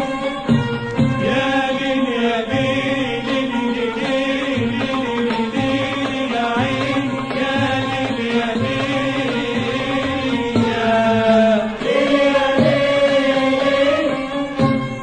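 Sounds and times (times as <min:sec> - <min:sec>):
traditional instruments playing: 0:00.0 - 0:15.0
ensemble of voices singing: 0:01.0 - 0:15.0.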